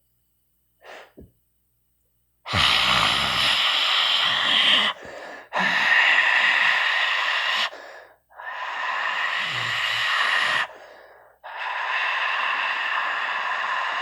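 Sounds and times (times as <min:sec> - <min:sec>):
person making breathy hisses: 0:00.8 - 0:01.3, 0:02.5 - 0:14.0
person breathing in: 0:02.5 - 0:14.0.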